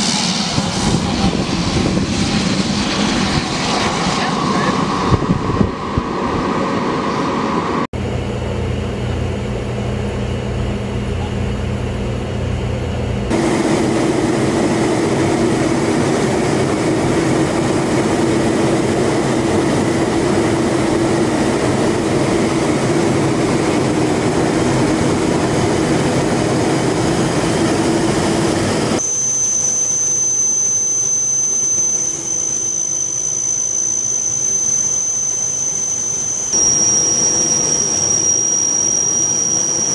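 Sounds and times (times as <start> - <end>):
high-pitched engine whine: 0.0 - 39.9
turboprop engine drone: 0.0 - 39.9.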